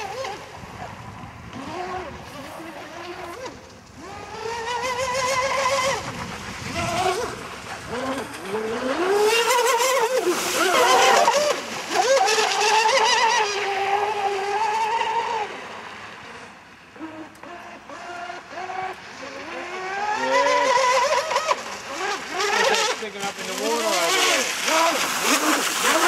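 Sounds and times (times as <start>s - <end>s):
rc boat motor whining: 0.0s - 26.0s.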